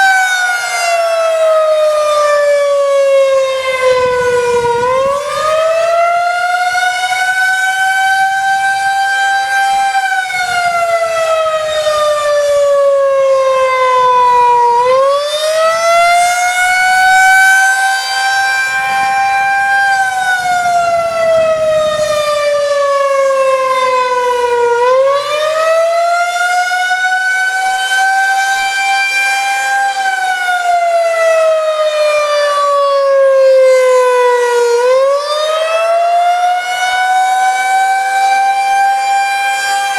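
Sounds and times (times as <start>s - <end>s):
wailing warning siren: 0.0s - 39.9s.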